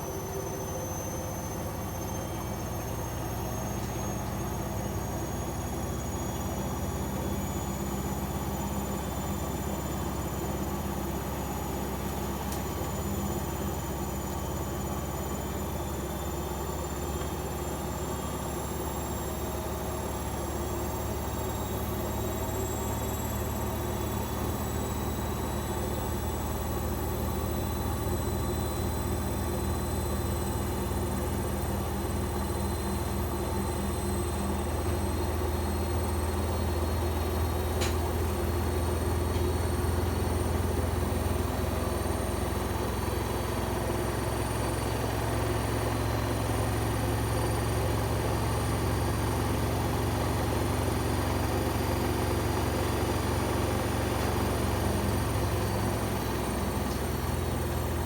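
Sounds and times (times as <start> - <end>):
washing machine spinning: 0.9 - 58.0.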